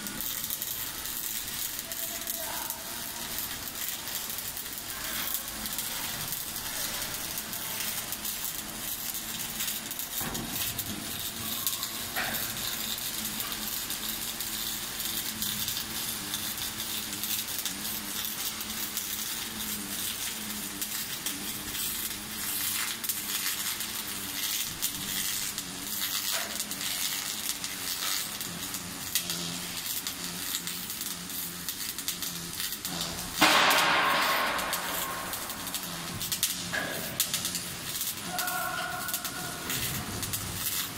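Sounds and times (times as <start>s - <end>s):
welding arc crackling sizzle: 0.0s - 40.9s.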